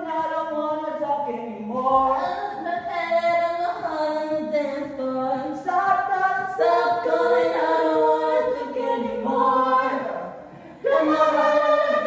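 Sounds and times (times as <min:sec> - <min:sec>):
voices singing in harmony: 0:00.0 - 0:12.0.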